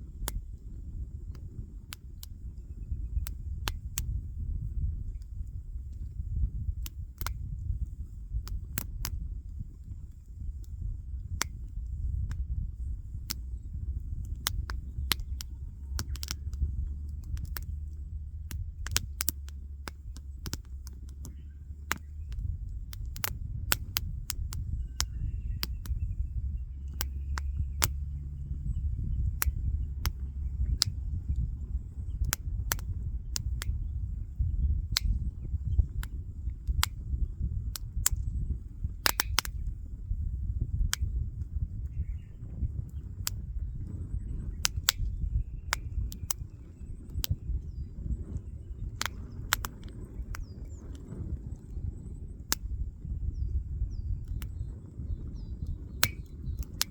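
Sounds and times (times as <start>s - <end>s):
wood fire crackling: 0.0s - 51.7s, 54.2s - 56.9s.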